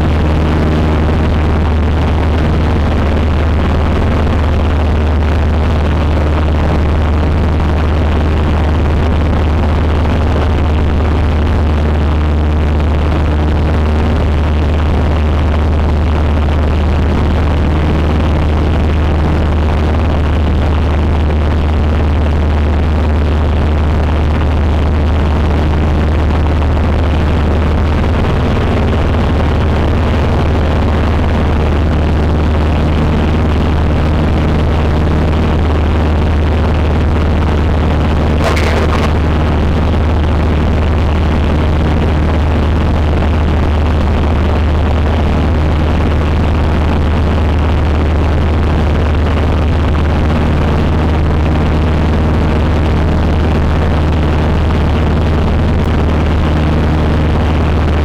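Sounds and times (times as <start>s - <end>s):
plane engine and propeller drone: 0.0s - 58.0s.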